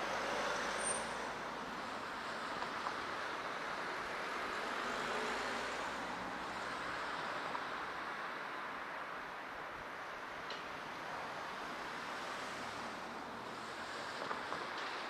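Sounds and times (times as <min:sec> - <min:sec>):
distant road traffic hum: 0:00.0 - 0:15.0.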